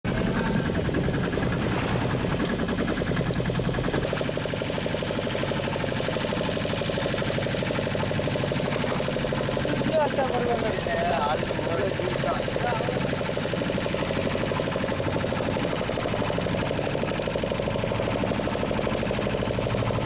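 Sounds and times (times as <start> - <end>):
boat engine idling: 0.1 - 20.0.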